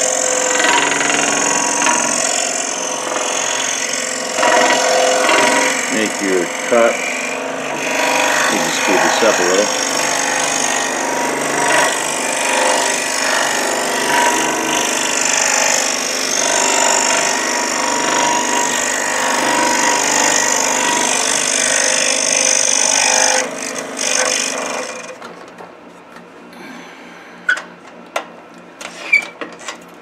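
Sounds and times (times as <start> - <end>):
scroll saw cutting wood: 0.0 - 25.2.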